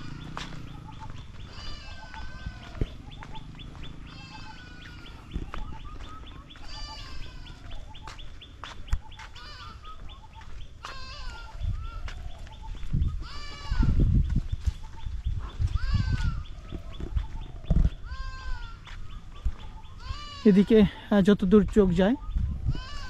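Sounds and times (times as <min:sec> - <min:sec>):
farm animals bleating: 0:00.0 - 0:14.3, 0:15.2 - 0:21.3, 0:22.4 - 0:23.0
low microphone rumble: 0:00.0 - 0:20.4, 0:22.2 - 0:23.0
birds chirping: 0:00.0 - 0:23.0.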